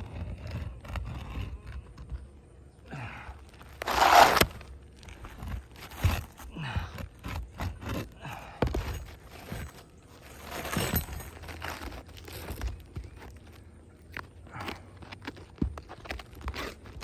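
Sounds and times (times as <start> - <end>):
shingle scraping and rasping: 0.0 - 17.0.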